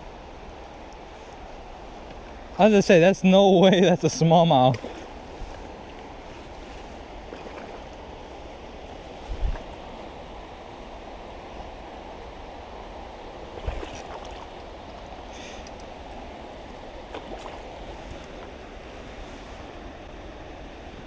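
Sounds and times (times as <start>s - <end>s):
creek water flowing: 0.0s - 21.0s.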